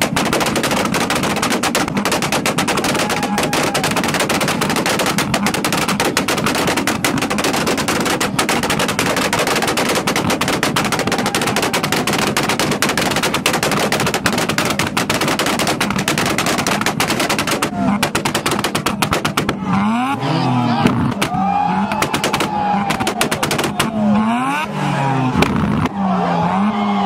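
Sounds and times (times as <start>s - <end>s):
engine backfire pops: 0.0s - 20.2s, 20.8s - 24.7s, 25.4s - 26.0s
car engine at rev limiter: 0.0s - 27.0s.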